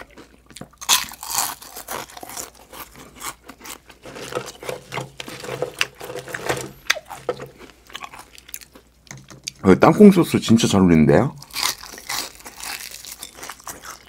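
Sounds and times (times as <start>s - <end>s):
crispy pieces crackling apart: 0.0s - 9.6s, 11.4s - 14.0s
crunching of fried chicken: 0.0s - 9.7s, 11.4s - 14.0s.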